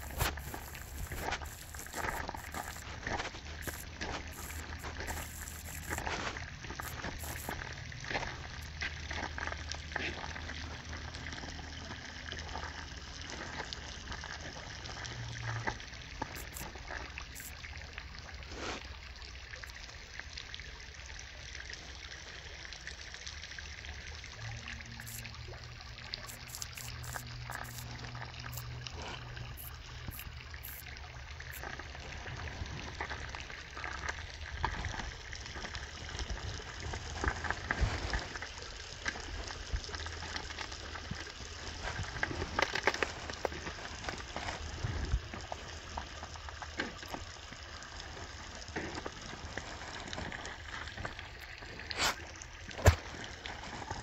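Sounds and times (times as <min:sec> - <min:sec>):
low steady hum: 0:00.0 - 0:54.0
water trickling: 0:00.0 - 0:54.0.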